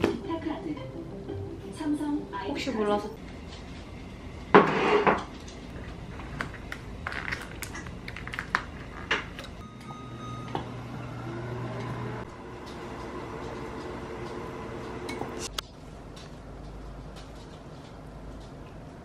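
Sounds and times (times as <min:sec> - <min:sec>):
low appliance hum: 0:00.0 - 0:19.0.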